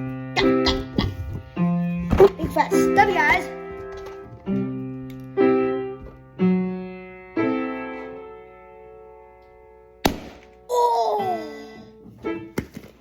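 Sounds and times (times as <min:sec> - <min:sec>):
piano chords ringing: 0:00.0 - 0:12.7.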